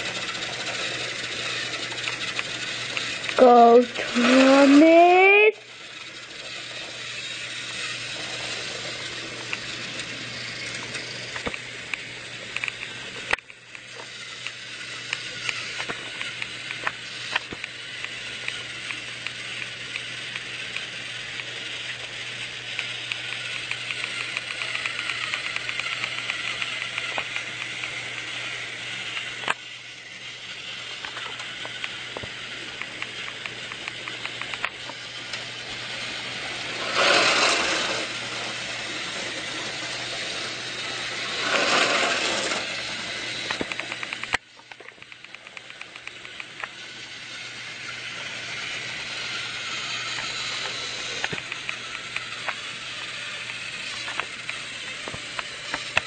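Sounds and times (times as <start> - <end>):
toy train motor whirring: 0.0 - 56.0.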